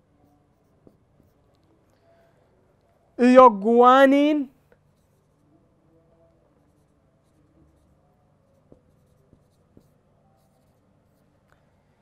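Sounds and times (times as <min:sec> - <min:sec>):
marker pen writing on whiteboard: 0:00.0 - 0:03.5, 0:04.2 - 0:11.8.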